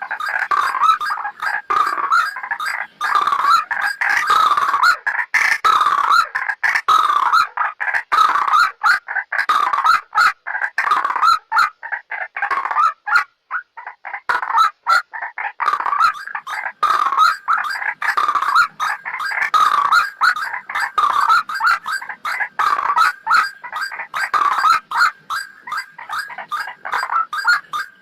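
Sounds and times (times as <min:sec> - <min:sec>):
waterhen calling: 0:00.0 - 0:28.0.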